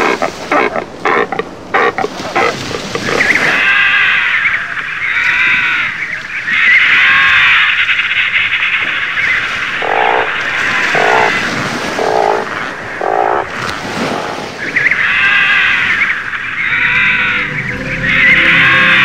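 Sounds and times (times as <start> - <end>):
high animal calls: 0.0 - 19.0
lower animal calls: 0.0 - 19.0.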